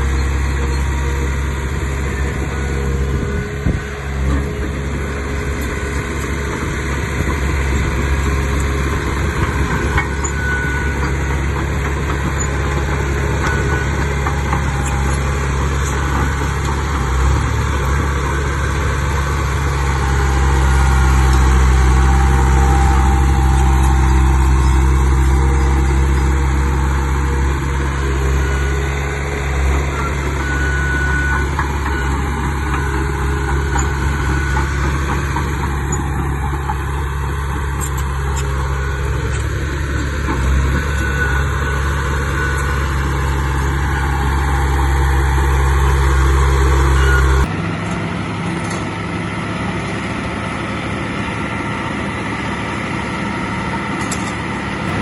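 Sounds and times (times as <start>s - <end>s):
heavy machinery diesel engine running: 0.0s - 55.0s.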